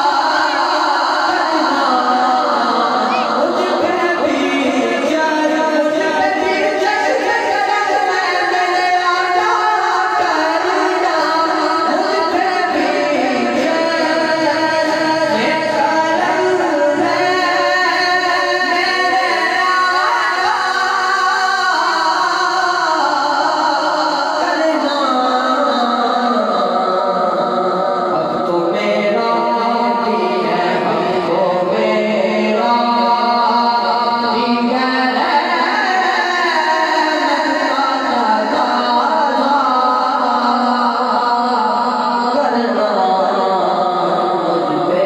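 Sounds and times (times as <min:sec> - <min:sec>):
man singing devotional song: 0:00.0 - 0:45.0.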